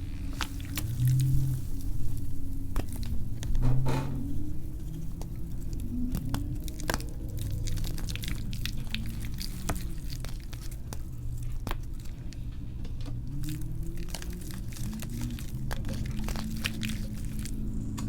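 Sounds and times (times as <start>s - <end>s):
wet chalk squishing and crackling: 0.0s - 18.0s.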